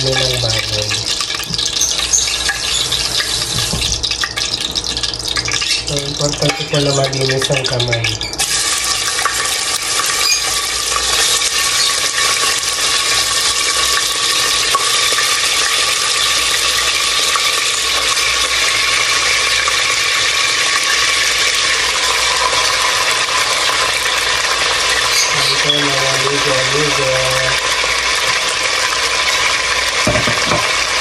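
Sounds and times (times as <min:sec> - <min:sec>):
meat sizzling in hot oil: 0:00.0 - 0:31.0.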